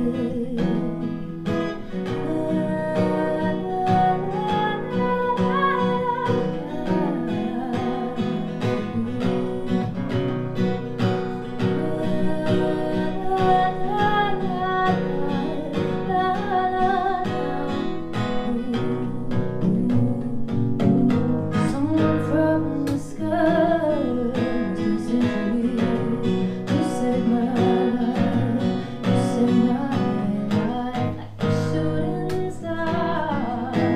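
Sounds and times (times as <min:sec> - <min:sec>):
person singing: 0:00.0 - 0:10.3, 0:11.2 - 0:33.9
acoustic guitar strumming: 0:00.0 - 0:33.9.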